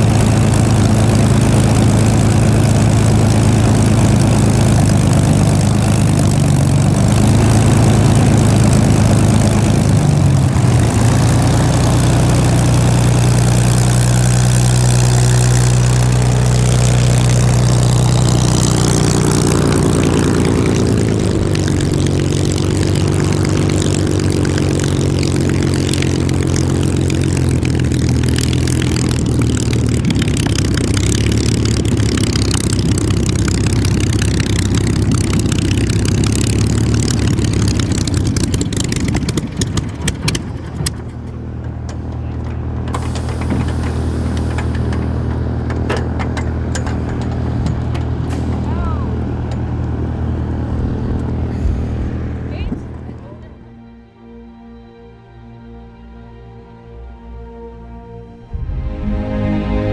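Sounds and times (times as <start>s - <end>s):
propeller aircraft engine running: 0.0s - 54.0s, 58.4s - 59.9s.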